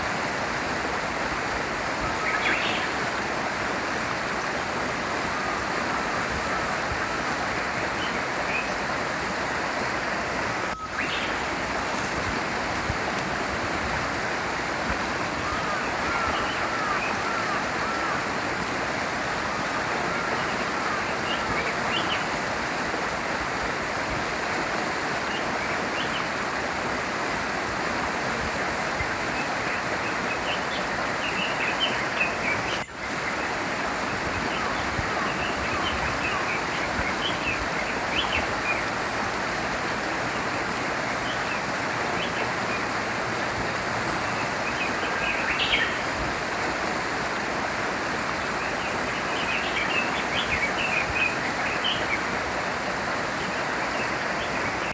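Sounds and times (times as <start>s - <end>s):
stream flowing: 0.0s - 54.9s.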